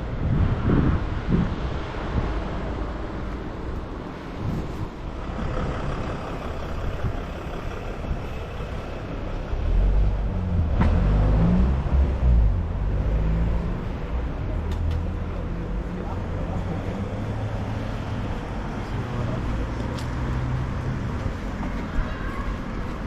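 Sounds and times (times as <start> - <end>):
heavy vehicle engine rumbling: 0.0 - 23.0
street traffic: 0.0 - 23.0.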